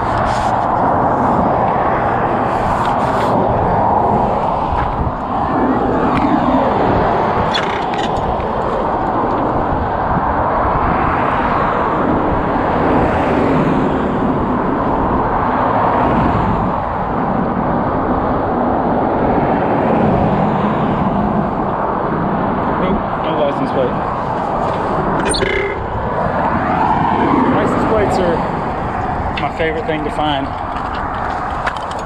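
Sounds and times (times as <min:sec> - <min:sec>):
bicycle road noise: 0:00.0 - 0:32.0
wind noise: 0:00.0 - 0:32.0.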